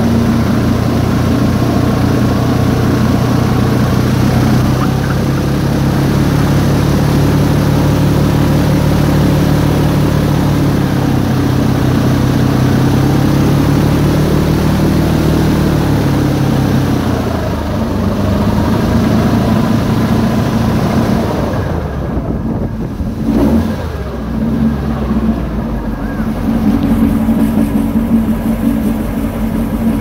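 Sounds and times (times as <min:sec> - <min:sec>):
airboat engine and propeller: 0:00.0 - 0:30.0.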